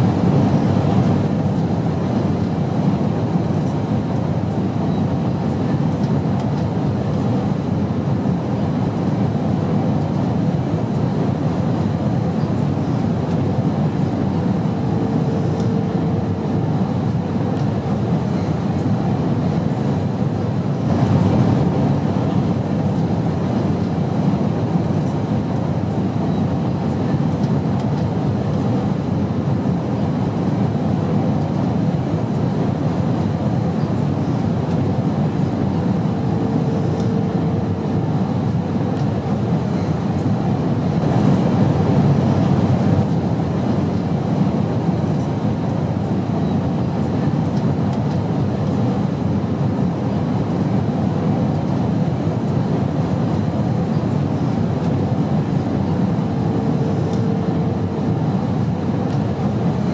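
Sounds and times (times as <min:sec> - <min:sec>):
airplane rumble: 0:00.0 - 0:59.9.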